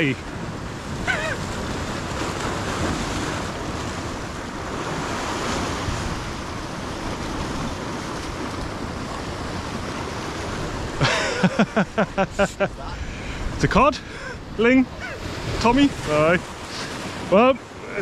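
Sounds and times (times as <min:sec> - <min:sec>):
wind buffeting microphone: 0:00.0 - 0:11.0, 0:12.2 - 0:17.3
surf washing over rocks: 0:00.0 - 0:18.0.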